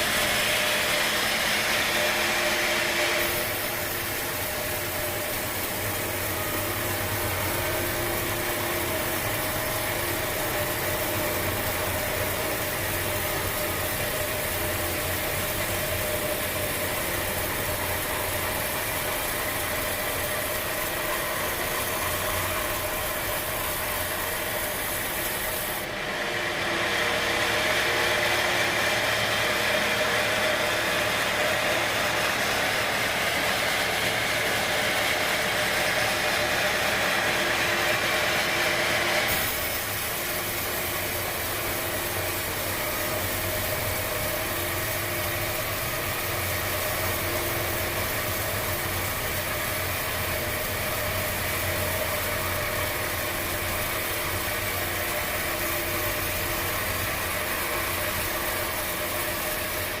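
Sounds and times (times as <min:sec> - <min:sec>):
machinery humming and hissing: 0:00.0 - 1:00.0.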